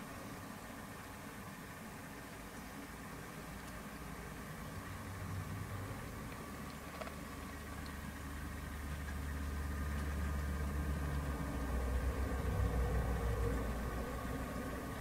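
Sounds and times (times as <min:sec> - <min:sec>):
model train running hum: 0:00.0 - 0:15.0.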